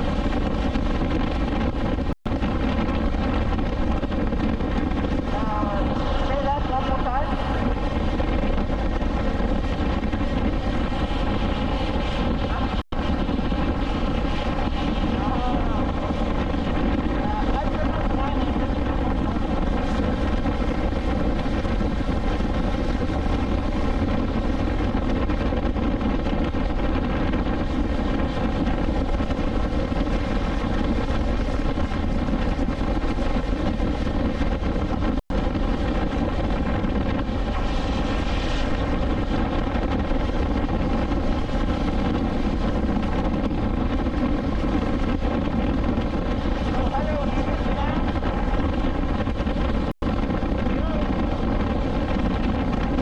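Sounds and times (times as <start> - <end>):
road and wind noise: 0.0 - 53.0.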